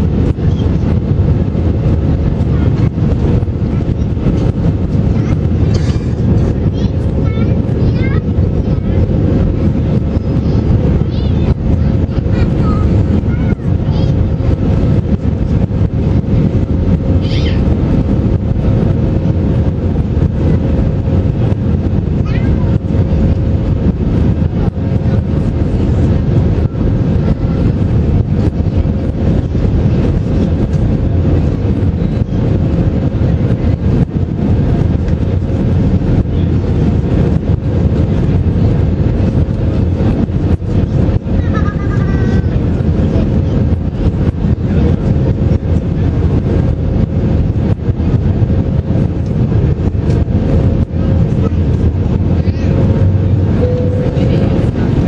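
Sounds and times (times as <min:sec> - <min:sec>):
jet engine drone in cabin: 0:00.0 - 0:55.0.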